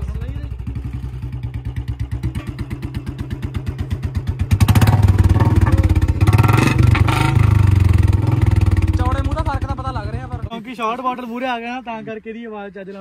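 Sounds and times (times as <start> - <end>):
motorcycle engine idling and revving: 0.0 - 10.5.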